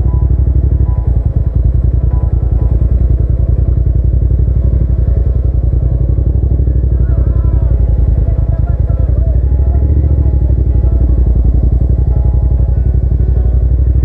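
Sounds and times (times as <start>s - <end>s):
motorcycle engine throbbing: 0.0s - 14.0s.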